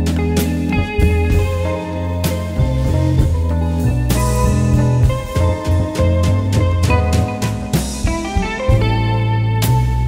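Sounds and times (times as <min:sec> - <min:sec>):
music with guitar bass and drums: 0:00.0 - 0:10.0.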